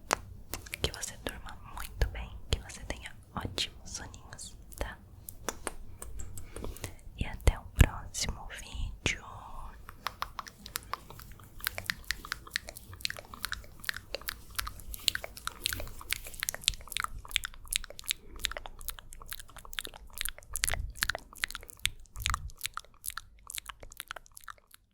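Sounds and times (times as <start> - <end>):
wet mouth clicks and smacks: 0.0 - 24.9.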